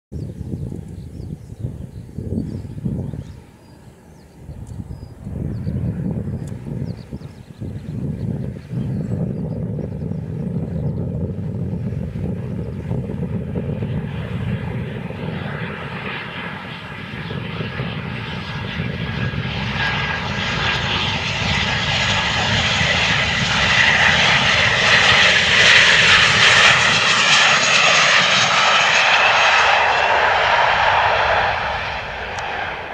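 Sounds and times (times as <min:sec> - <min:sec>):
jet engine whine and rush: 0:00.2 - 0:32.9.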